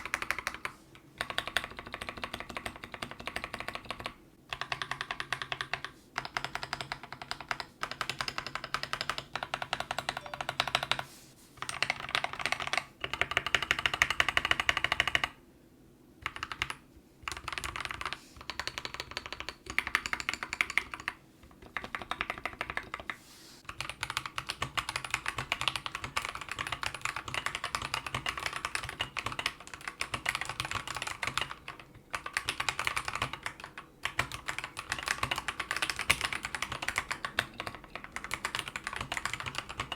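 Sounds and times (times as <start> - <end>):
mechanical keyboard typing: 0.0 - 15.4, 16.2 - 39.9.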